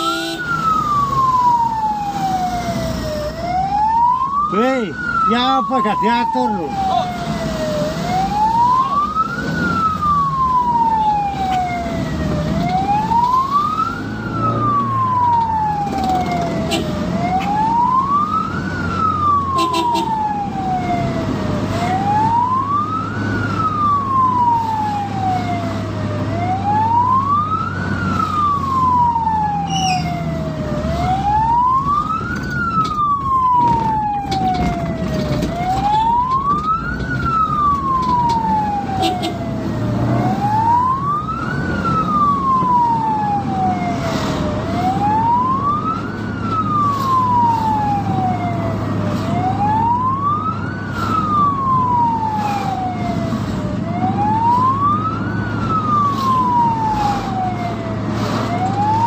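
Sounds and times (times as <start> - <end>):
ambulance siren wailing: 0.0 - 59.0.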